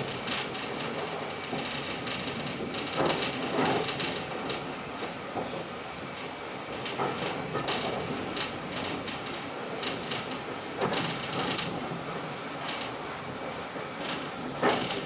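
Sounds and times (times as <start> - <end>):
wheels clicking on rails: 0.0 - 5.6, 6.7 - 15.0
train rolling rumble: 0.0 - 15.0.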